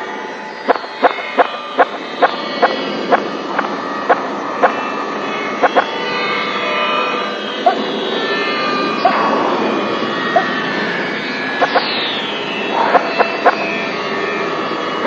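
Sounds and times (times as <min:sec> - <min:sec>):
dense drone of held tones: 0:00.0 - 0:15.0.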